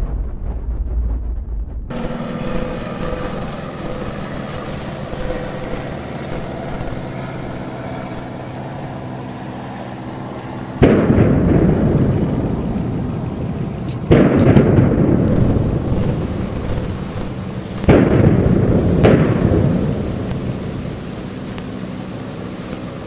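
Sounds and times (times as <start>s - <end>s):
demolition charges blasting: 0.0s - 23.0s
low rumble of dust cloud: 0.0s - 23.0s
steady hum with overtones: 0.0s - 23.0s.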